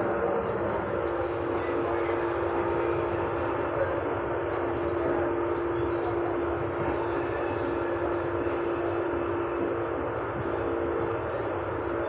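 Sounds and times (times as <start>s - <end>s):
constant hum: 0.0s - 12.0s
electric train interior rumble: 0.0s - 12.0s.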